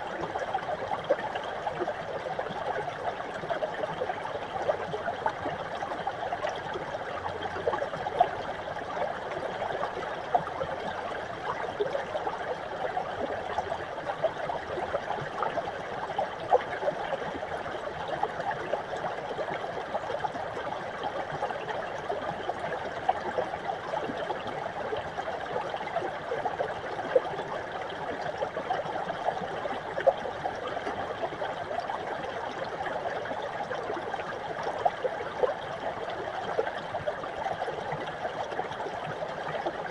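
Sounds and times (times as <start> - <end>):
brook gurgling over rocks: 0.0 - 39.9.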